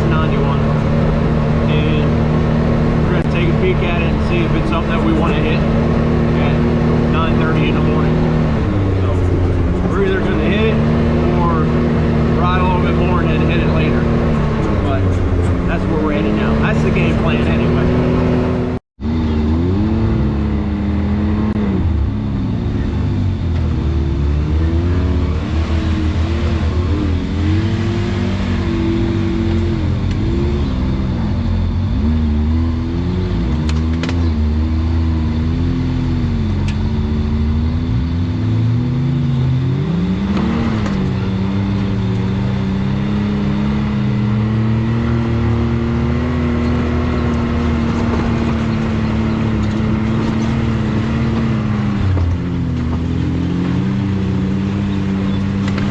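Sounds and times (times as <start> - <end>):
utility vehicle engine revving: 0.0 - 55.9.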